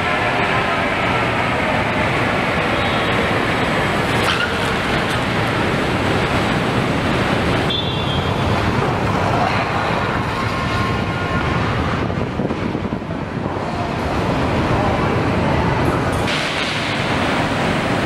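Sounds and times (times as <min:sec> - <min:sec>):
cars driving slowly: 0:00.0 - 0:18.0
factory din: 0:00.0 - 0:18.0.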